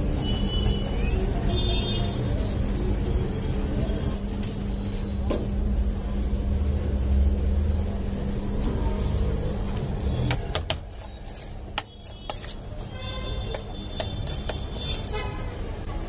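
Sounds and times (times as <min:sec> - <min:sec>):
low traffic rumble: 0:00.0 - 0:16.0
steady hum: 0:02.2 - 0:16.0.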